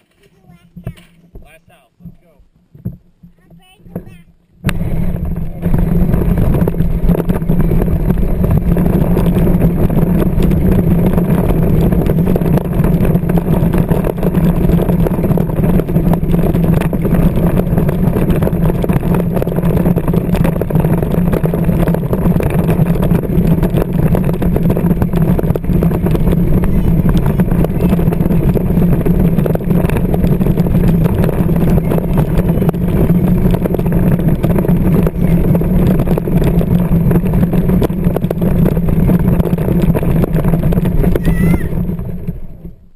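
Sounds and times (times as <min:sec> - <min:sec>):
toy tractor electric motor hum: 0:04.7 - 0:42.2.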